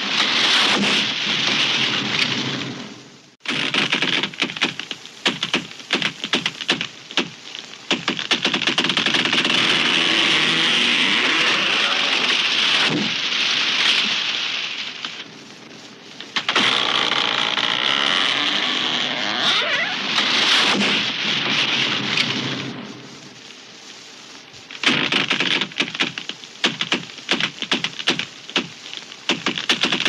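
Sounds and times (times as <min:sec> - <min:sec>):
tree cracking and crashing down: 0:00.0 - 0:30.0.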